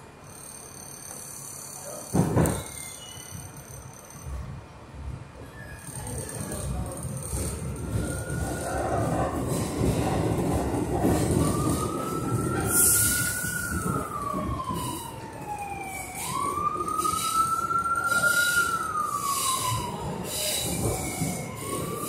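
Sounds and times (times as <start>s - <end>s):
subway car rumbling: 0.0s - 22.0s.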